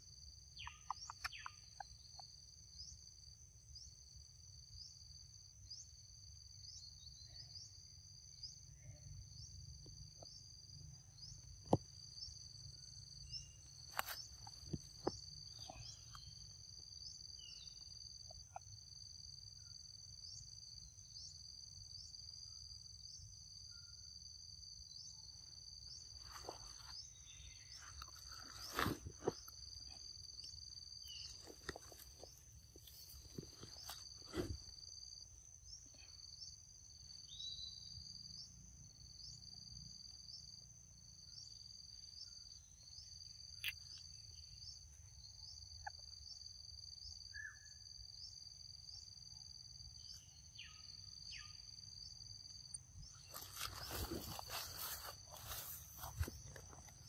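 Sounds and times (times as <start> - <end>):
shrill insect chorus: 0.0 - 57.0.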